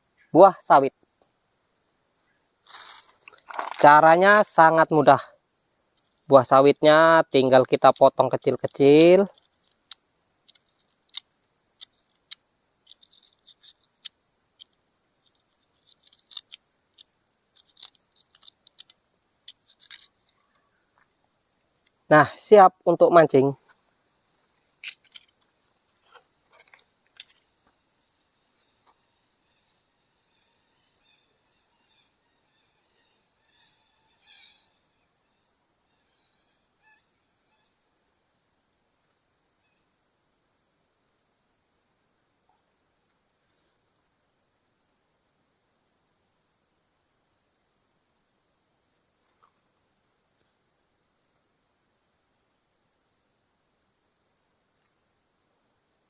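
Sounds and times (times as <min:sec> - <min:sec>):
insect chorus droning: 0:00.0 - 0:56.0.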